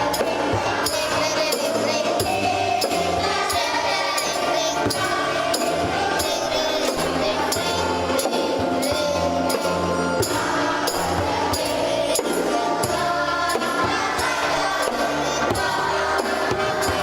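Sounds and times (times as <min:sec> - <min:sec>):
choir singing a hymn: 0:00.0 - 0:17.0
musical accompaniment: 0:00.0 - 0:17.0
percussion beat: 0:00.0 - 0:17.0.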